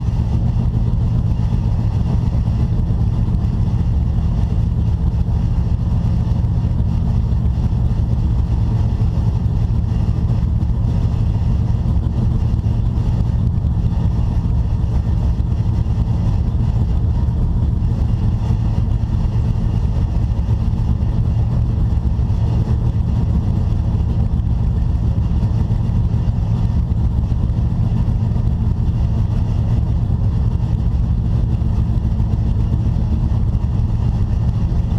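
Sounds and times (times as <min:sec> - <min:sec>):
race car engine running: 0:00.0 - 0:34.9.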